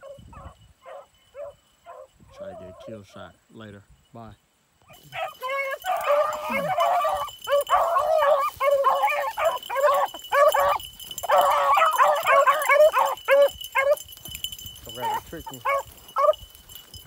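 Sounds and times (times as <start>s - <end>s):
pack of hounds baying: 0.0s - 3.0s, 4.8s - 17.0s.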